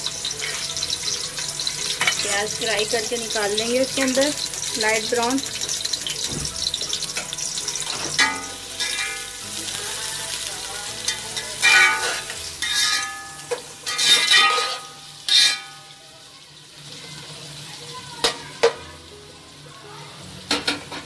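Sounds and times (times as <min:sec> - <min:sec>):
onions sizzling in a pot: 0:00.0 - 0:21.0.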